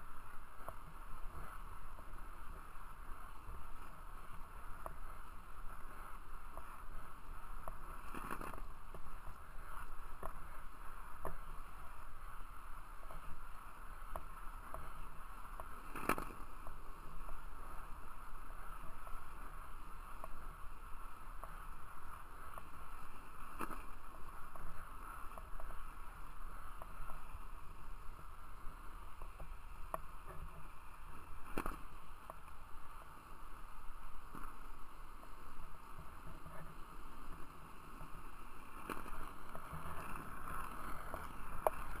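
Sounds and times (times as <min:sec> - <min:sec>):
skate wheels rolling on asphalt: 0:00.0 - 0:42.0.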